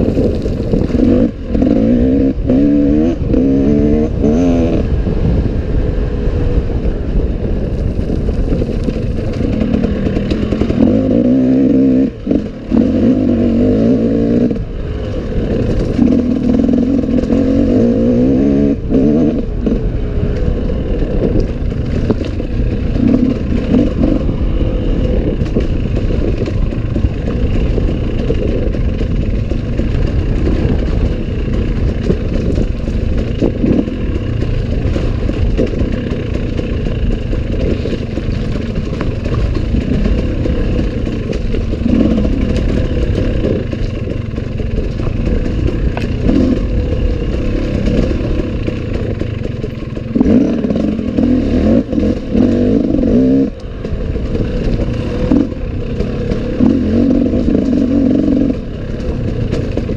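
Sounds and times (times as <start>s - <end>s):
clatter and flapping: 0.0s - 5.7s, 6.4s - 59.9s
wind buffeting camera: 0.0s - 59.9s.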